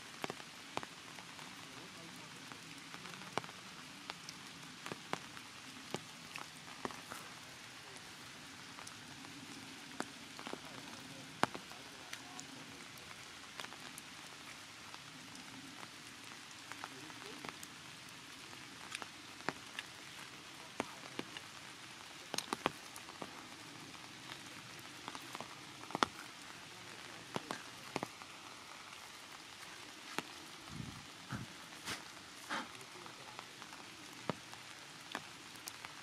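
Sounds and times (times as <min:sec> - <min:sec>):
rain hiss: 0:00.0 - 0:36.0
sharp taps of raindrops: 0:00.0 - 0:36.0.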